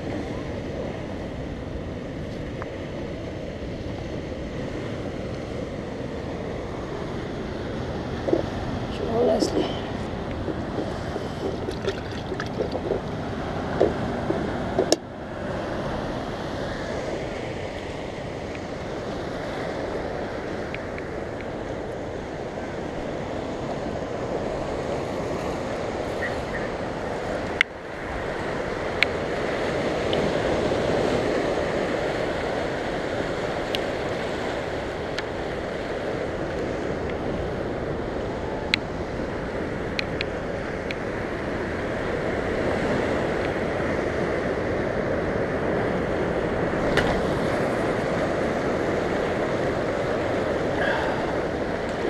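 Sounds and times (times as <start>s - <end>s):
wind buffeting microphone: 0.0s - 52.0s
surf washing onto rocky shore: 3.7s - 52.0s.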